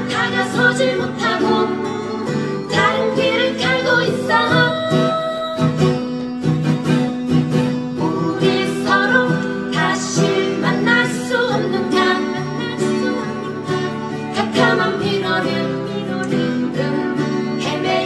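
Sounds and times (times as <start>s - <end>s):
guitar melody with slides: 0.0s - 18.0s.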